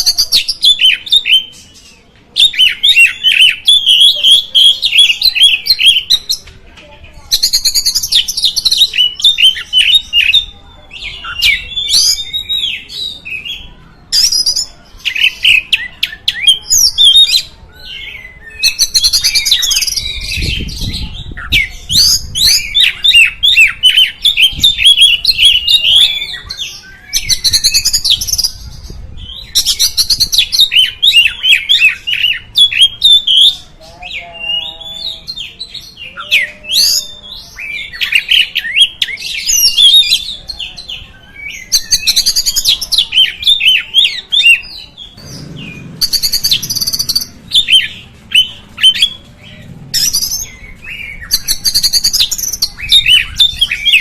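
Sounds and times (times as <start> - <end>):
bird singing chirps and whistles: 7.3 - 54.0.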